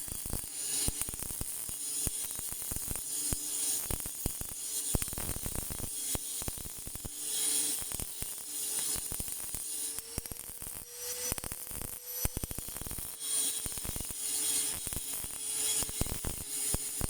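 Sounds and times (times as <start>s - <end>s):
welding arc crackling and sizzling: 0.0s - 17.0s.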